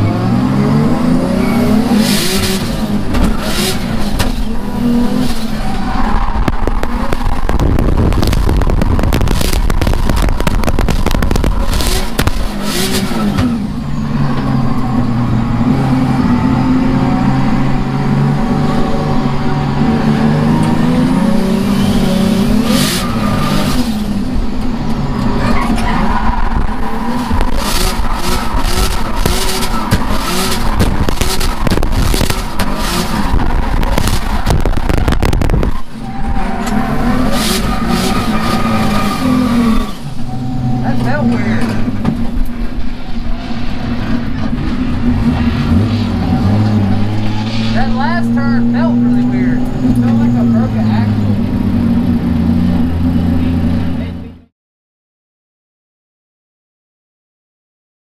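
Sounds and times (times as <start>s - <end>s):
tyres skidding: 0.0s - 54.4s
car engine revving: 0.0s - 54.5s.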